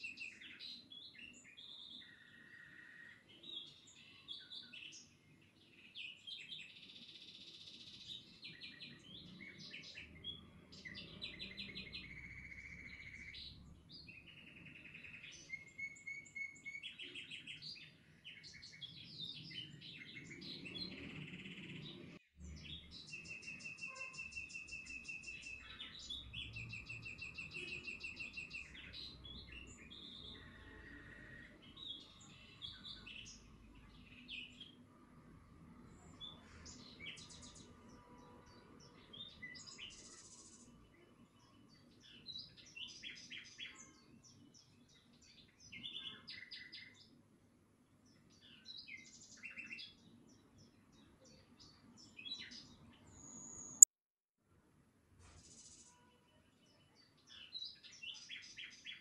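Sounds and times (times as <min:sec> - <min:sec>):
songbirds singing: 0:00.0 - 0:53.9, 0:55.4 - 0:59.0.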